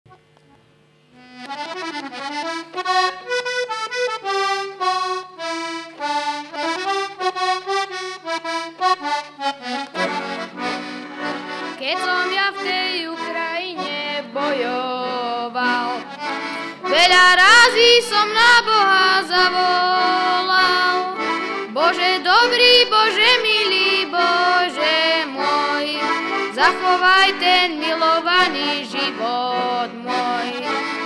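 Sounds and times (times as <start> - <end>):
button accordion playing folk melody: 0.1 - 31.0.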